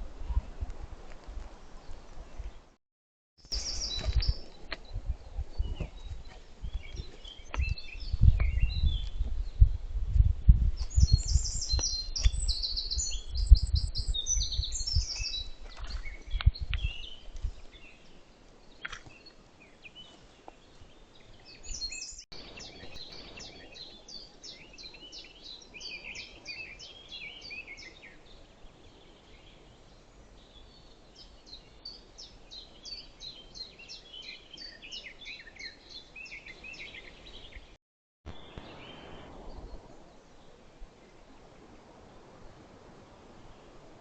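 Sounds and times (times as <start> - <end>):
songbirds singing: 3.4 - 9.8, 10.8 - 41.6.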